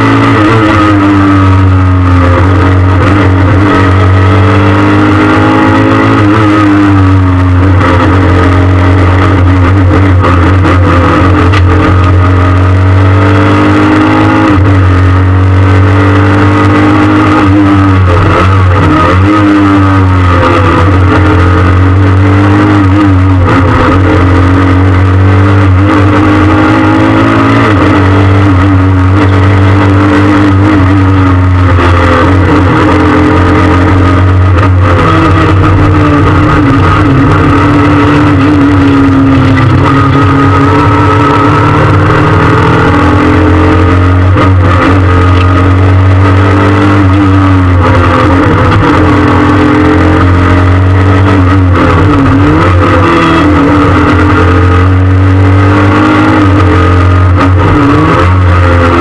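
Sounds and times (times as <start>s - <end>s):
low engine drone: 0.0s - 59.0s
rally car engine revving: 0.0s - 59.0s.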